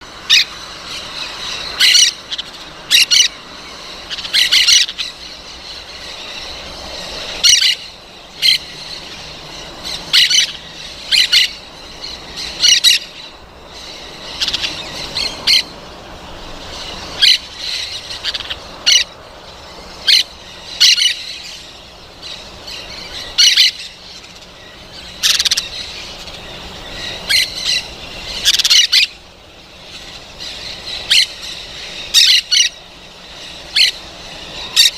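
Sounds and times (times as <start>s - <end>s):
parrots squawking: 0.2s - 15.8s, 16.4s - 19.2s, 19.8s - 34.9s.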